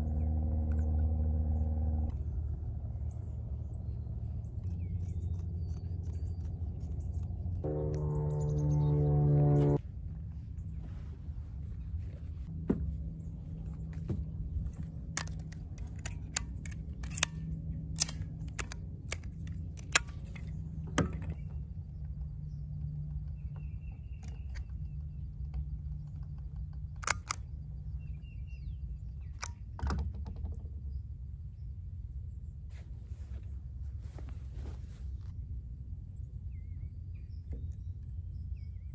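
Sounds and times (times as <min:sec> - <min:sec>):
low steady rumble: 0:00.0 - 0:38.9.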